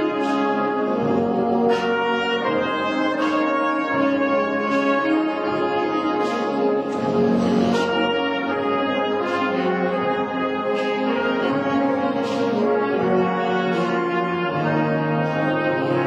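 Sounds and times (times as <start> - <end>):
brass and reed band chords: 0.0 - 16.0.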